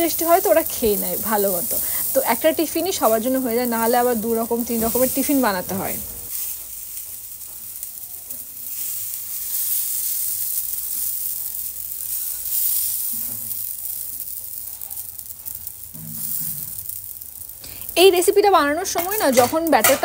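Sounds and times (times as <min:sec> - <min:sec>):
batter sizzling on a hot griddle: 0:00.0 - 0:20.0.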